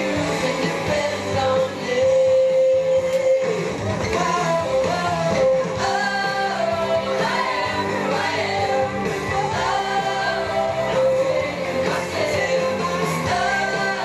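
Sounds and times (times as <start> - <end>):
guitar accompaniment: 0.0 - 14.0
person singing: 0.0 - 14.0.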